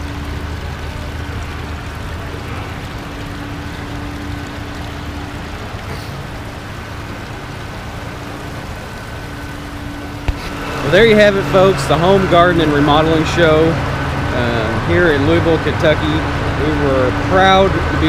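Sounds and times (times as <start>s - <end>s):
faint steady hum: 0.0s - 18.0s
small waterfall splashing into pond: 0.0s - 18.0s.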